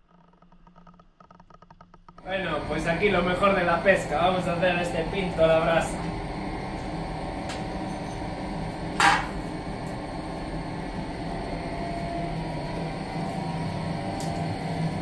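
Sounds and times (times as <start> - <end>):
steady low hum: 2.2 - 15.0.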